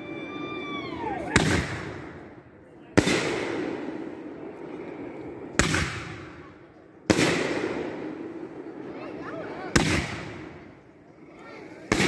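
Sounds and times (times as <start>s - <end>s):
firework bangs: 1.2s - 11.0s, 11.8s - 12.0s.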